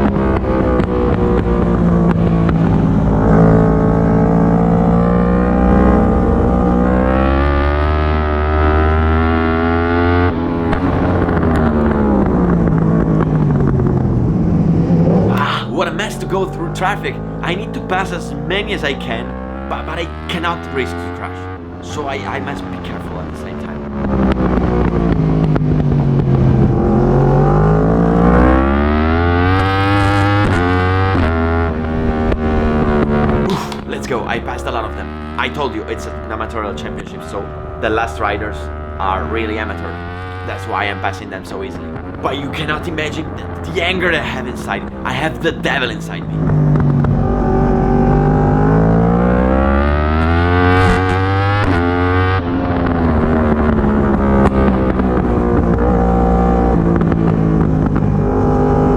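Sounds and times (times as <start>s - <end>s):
racing motorcycle engine revving: 0.0s - 58.9s.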